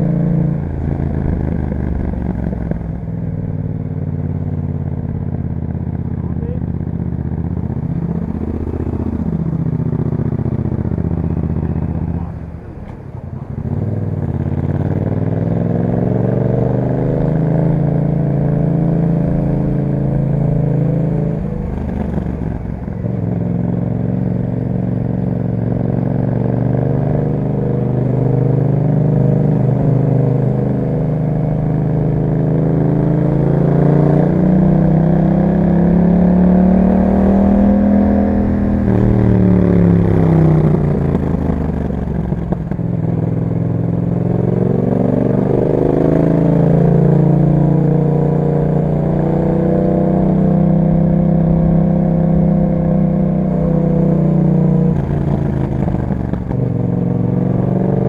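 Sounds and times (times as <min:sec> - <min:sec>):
motorcycle engine while riding: 0:00.0 - 0:58.0.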